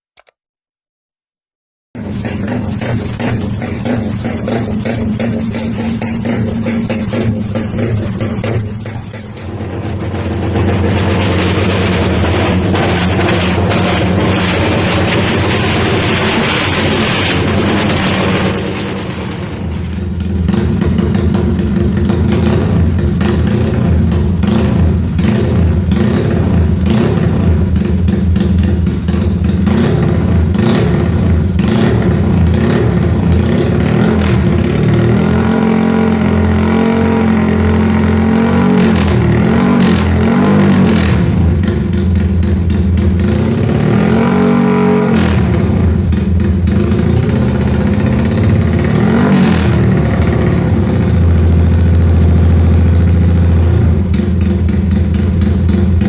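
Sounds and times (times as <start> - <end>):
motorcycle engine revving: 2.0 - 56.0.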